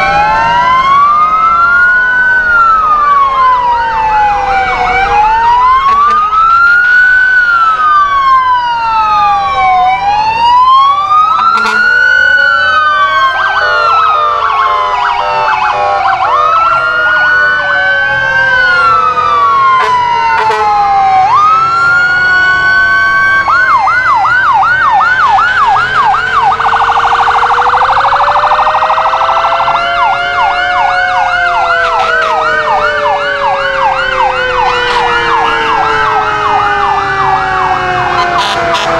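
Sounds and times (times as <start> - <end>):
electronic siren wailing: 0.0 - 38.9
fast yelping siren warbles: 0.0 - 38.9.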